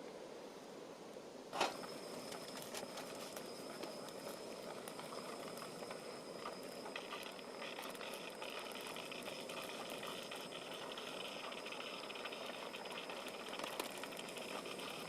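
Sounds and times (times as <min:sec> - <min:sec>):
gas camp stove burning: 0:01.1 - 0:15.0.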